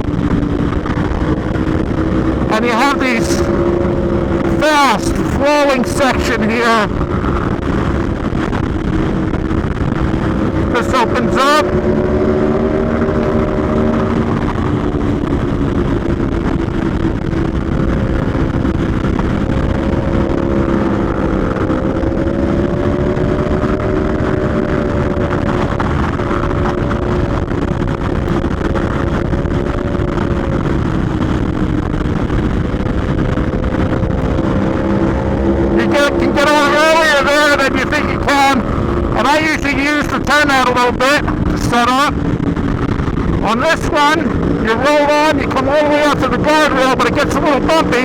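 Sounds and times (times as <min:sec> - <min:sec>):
motorcycle engine pulling at speed: 0:00.0 - 0:48.0
wind rush on helmet: 0:00.0 - 0:48.0.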